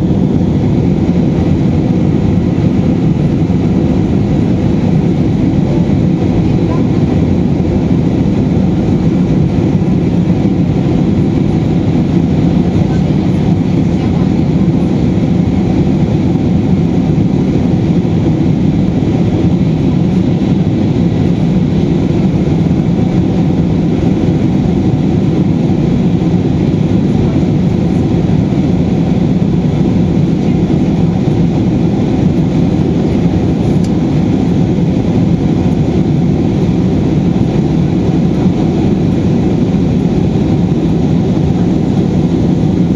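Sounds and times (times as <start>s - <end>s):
jet engine cabin roar: 0.0s - 42.9s.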